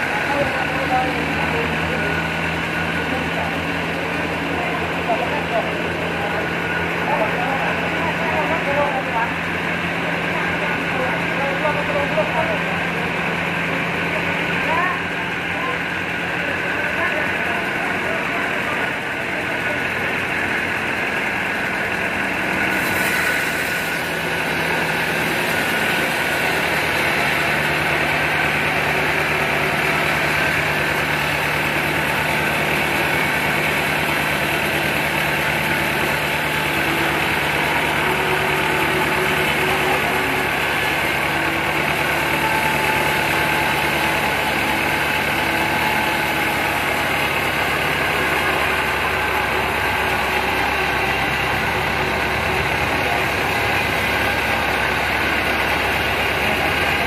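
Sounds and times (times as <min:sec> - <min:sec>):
band saw cutting log: 0:00.0 - 0:57.0
engine-like hum: 0:00.0 - 0:57.0.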